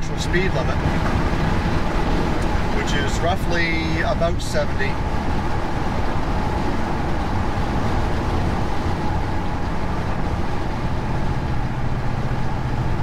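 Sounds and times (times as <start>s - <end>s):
engine drone inside truck cab: 0.0s - 13.0s
road noise: 0.0s - 13.0s.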